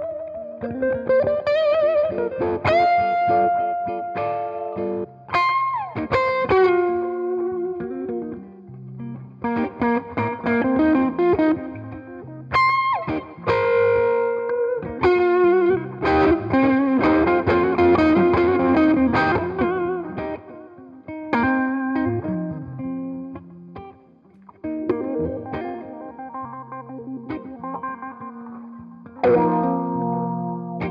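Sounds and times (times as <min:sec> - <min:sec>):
electric guitar lead phrases: 0:00.0 - 0:30.9.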